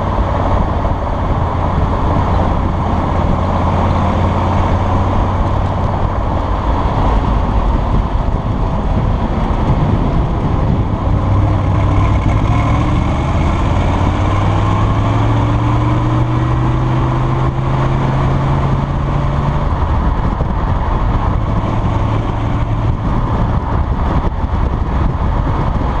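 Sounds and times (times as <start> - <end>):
car engine and exhaust driving: 0.0 - 26.0
steady rushing noise: 0.0 - 26.0.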